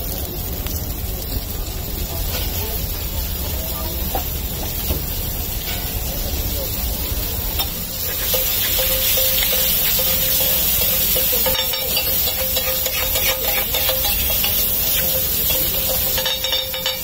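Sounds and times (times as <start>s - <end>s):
onions sizzling on a griddle: 0.0s - 17.0s.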